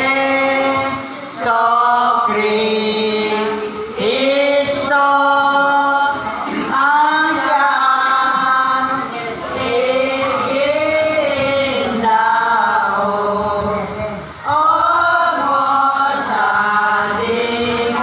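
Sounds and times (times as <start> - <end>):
group singing a devotional hymn: 0.0 - 18.0.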